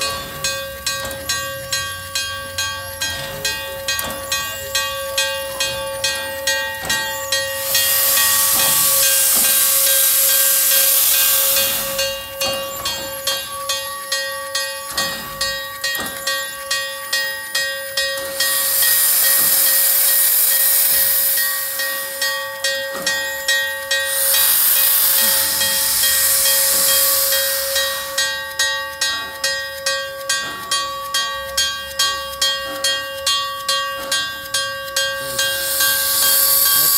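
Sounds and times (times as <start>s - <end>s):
steam hissing: 0.0s - 33.3s, 33.9s - 36.9s.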